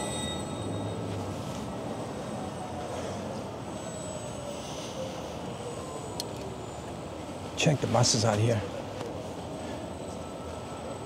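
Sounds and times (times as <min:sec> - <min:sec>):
city buses running: 0:00.0 - 0:11.0
faint wavering engine tone: 0:00.0 - 0:11.0
street traffic rumble: 0:00.0 - 0:11.0.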